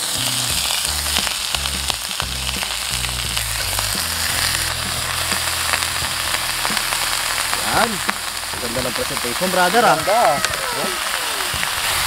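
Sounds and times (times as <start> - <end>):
meat sizzling on hot plate: 0.0 - 12.0.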